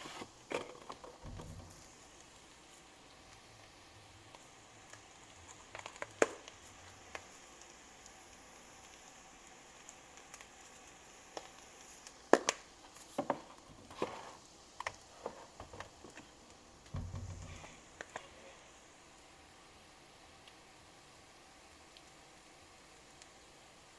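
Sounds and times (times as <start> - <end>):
faint steady hiss: 0.0 - 23.9.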